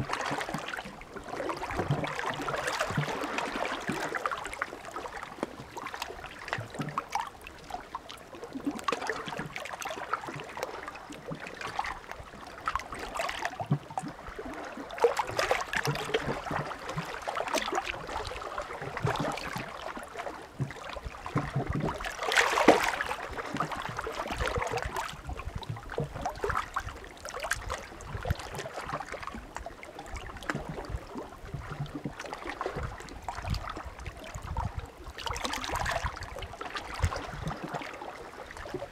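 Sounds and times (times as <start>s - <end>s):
small waves lapping on shore: 0.0s - 38.9s.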